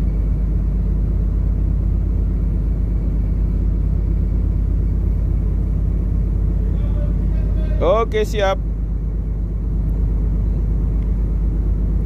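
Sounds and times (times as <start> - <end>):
ship engine low rumble: 0.0 - 12.0.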